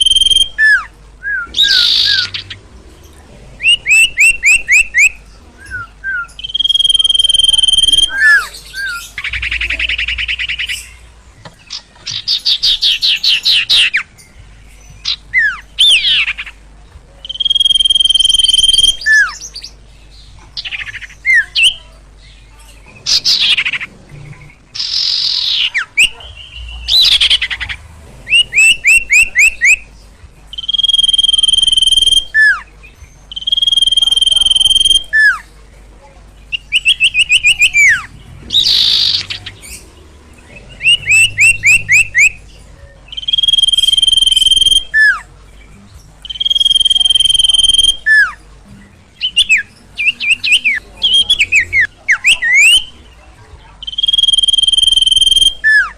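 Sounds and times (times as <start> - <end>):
bird singing whistles and trills: 0.0 - 2.7, 3.6 - 16.6, 17.2 - 19.8, 24.8 - 35.5, 36.5 - 45.3, 46.2 - 48.4, 49.2 - 53.2, 53.8 - 55.9.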